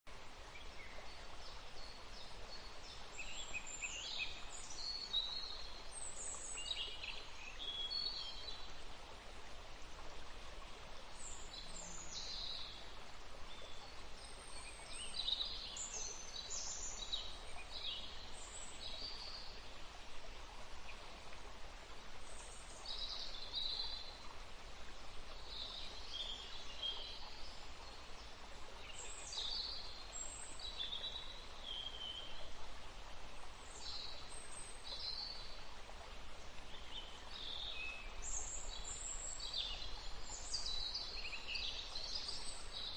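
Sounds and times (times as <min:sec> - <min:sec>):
running water: 0:00.1 - 0:42.9.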